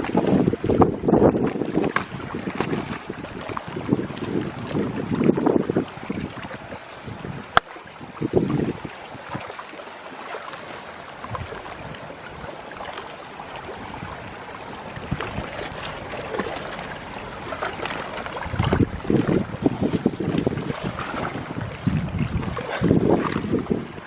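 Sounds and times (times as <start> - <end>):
wind gusts buffeting microphone: 0.0 - 9.6, 11.1 - 24.0
water noise: 0.0 - 24.0.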